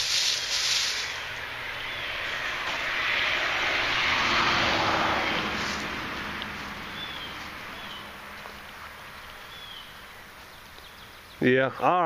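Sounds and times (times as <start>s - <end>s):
vehicle passing: 0.0s - 11.6s.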